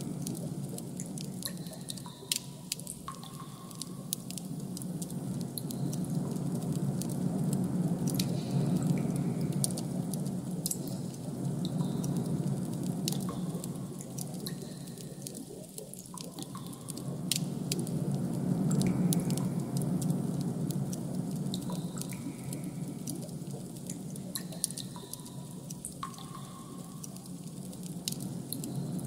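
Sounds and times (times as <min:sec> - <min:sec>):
low noise bed: 0:00.0 - 0:29.0
small drip-like clicks: 0:00.0 - 0:29.0.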